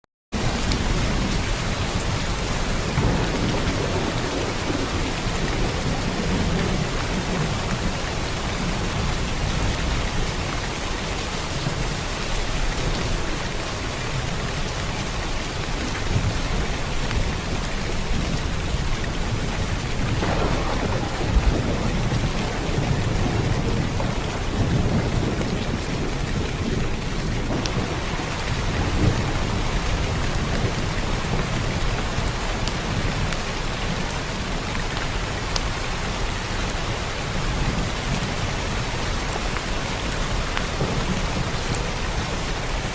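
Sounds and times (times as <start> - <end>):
heavy rain: 0.4 - 42.9
low rumble of thunder: 0.4 - 42.9.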